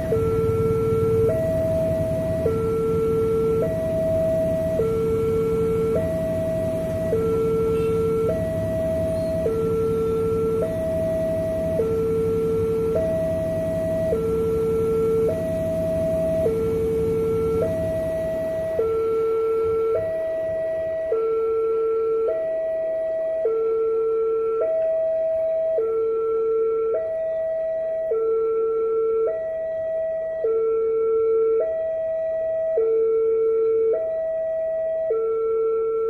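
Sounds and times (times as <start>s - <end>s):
two-tone crossing alarm: 0.0s - 36.0s.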